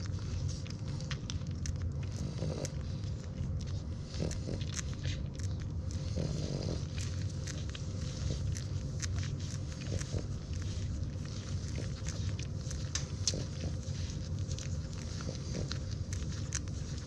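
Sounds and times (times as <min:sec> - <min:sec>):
puppies suckling wet smacks: 0:00.0 - 0:17.0
puppy grunts: 0:00.0 - 0:17.0
steady low rumble: 0:00.0 - 0:17.0.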